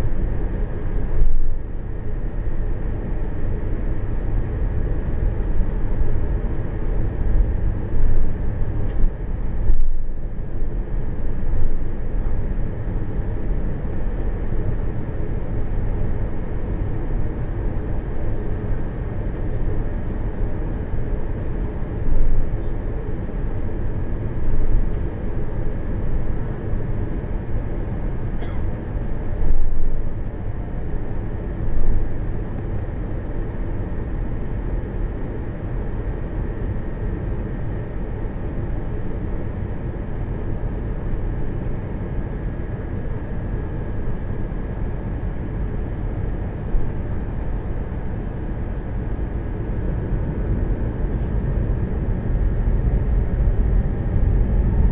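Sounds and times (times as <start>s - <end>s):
airplane engines rumbling in cabin: 0.0s - 54.9s.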